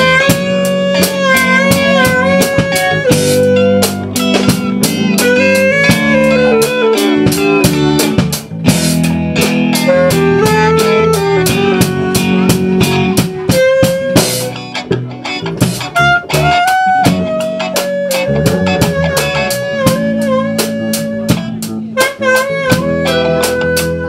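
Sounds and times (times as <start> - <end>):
drum kit steady beat: 0.0 - 24.0
electric guitar: 0.0 - 24.0
saxophone melody: 0.0 - 24.0.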